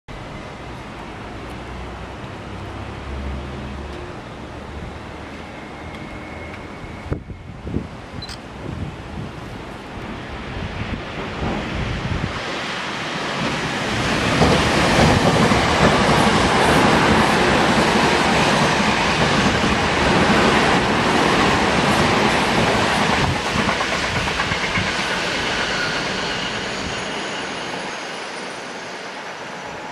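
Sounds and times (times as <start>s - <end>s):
electric train passing: 0.2s - 29.9s.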